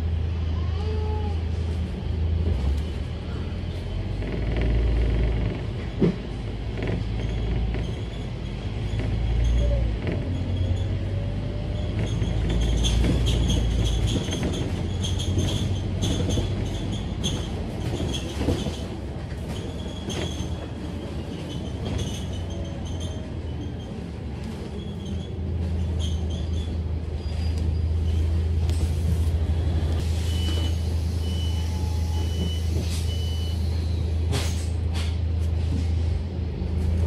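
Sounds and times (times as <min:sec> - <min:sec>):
bus engine drone: 0:00.0 - 0:37.0.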